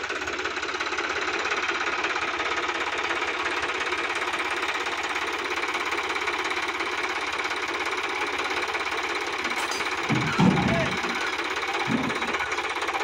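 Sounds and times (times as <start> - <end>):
tractor diesel engine clattering: 0.0 - 13.0.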